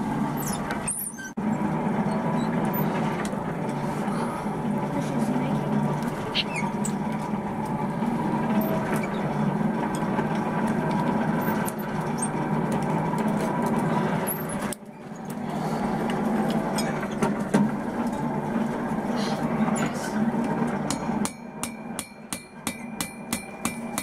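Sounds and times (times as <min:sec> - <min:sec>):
motor humming: 0:00.0 - 0:21.2.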